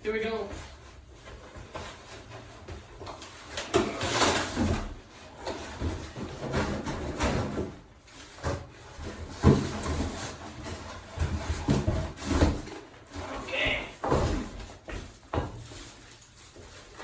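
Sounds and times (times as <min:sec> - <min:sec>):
cardboard scraping and rustling: 0:00.9 - 0:17.0.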